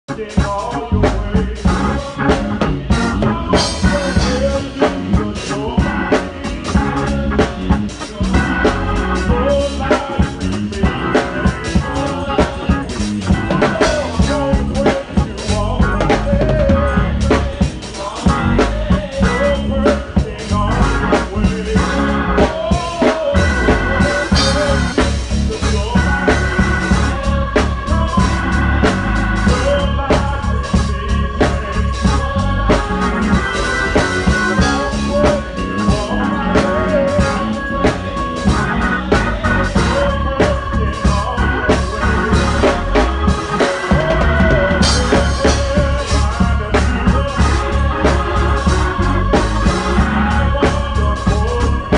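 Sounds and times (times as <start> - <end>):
organ chords: 0.0 - 51.9
drum kit playing: 0.1 - 51.9.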